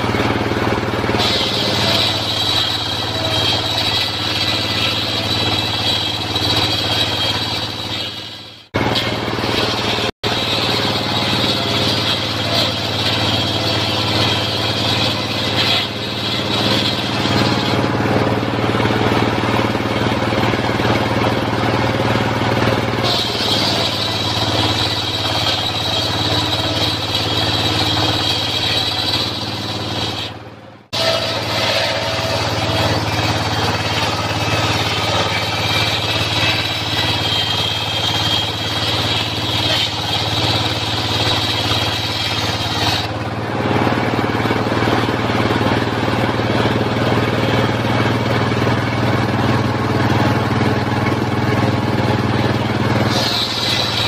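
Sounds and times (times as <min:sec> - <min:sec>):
circular saw blade whining in wood: 0:00.0 - 0:54.0
engine running: 0:00.0 - 0:54.0.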